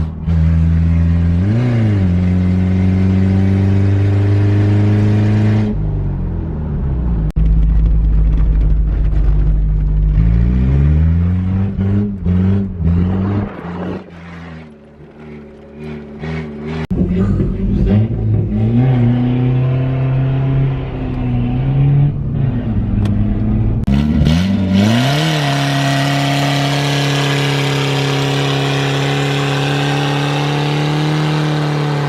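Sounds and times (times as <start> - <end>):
unmuffled engine revving: 0.0 - 32.0.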